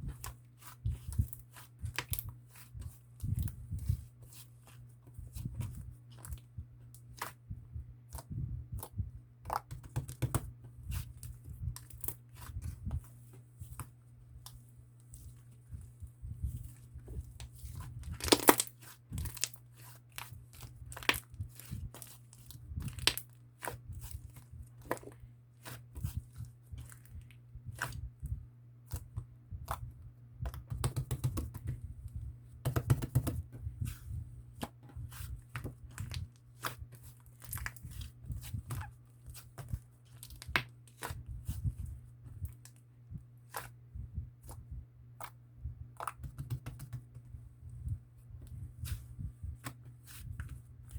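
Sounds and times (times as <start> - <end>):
hands kneading sticky slime: 0.0 - 50.9
low steady hum: 0.0 - 50.9.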